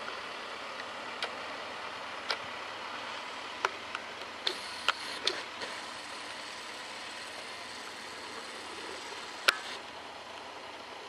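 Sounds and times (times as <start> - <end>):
distant tractor drone: 0.0 - 11.0.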